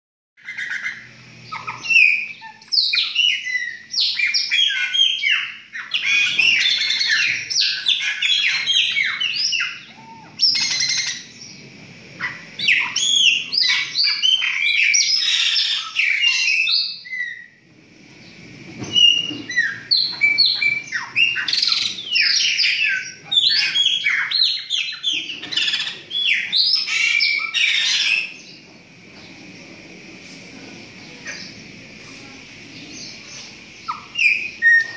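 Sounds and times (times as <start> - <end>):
blackbirds singing: 0.4 - 34.9.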